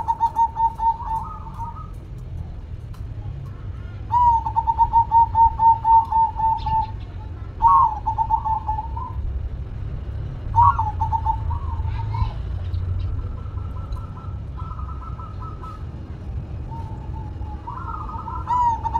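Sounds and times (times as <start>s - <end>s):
dove cooing: 0.0s - 9.4s, 10.3s - 18.9s
low background rumble: 0.0s - 18.9s.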